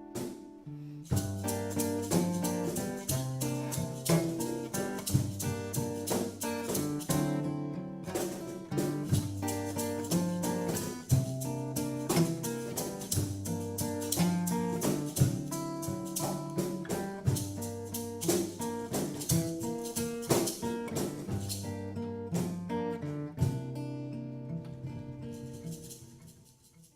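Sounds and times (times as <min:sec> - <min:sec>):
guitar-led instrumental music: 0:00.0 - 0:26.9.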